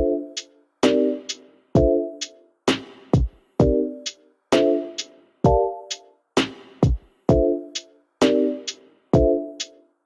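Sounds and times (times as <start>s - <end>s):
electronic music with drum-machine beat: 0.0s - 9.9s.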